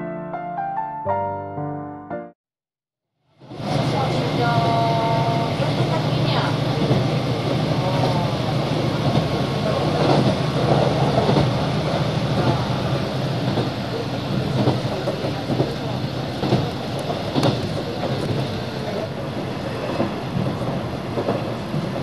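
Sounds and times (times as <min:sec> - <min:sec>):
train interior low drone: 0:03.3 - 0:22.0.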